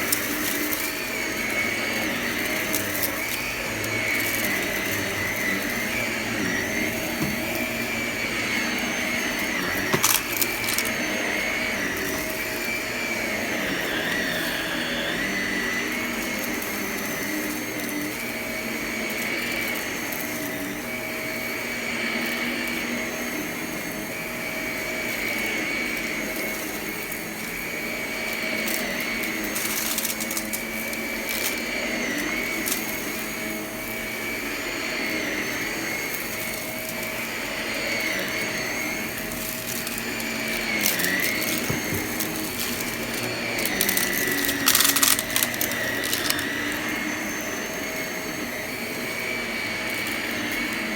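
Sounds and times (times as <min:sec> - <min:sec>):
vacuum cleaner motor whine: 0:00.0 - 0:50.9.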